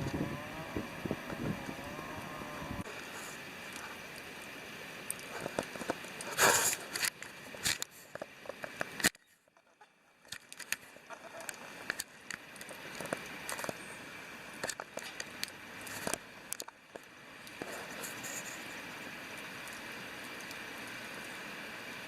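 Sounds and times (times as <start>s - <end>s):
river rushing: 0.0s - 9.0s, 11.6s - 22.0s.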